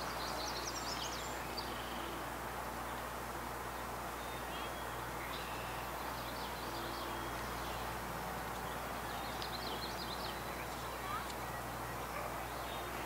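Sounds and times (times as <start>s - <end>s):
outdoor background noise: 0.0s - 13.0s
songbird singing: 0.0s - 13.0s.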